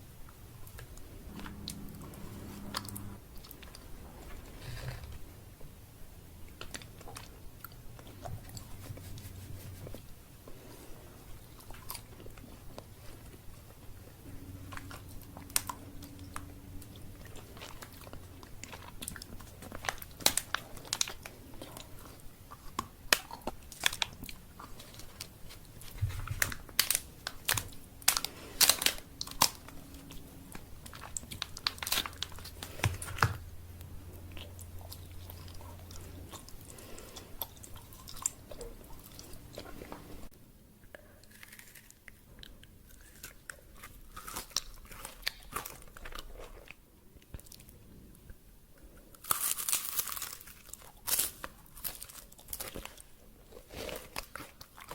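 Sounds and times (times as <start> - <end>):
low steady hum: 0.0 - 54.9
chewing crunchy chocolate candy: 0.2 - 54.9.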